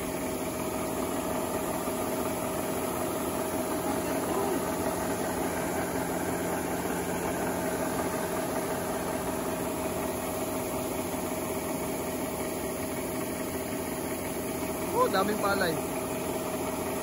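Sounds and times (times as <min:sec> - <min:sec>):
combine harvester machine hum: 0:00.0 - 0:17.0.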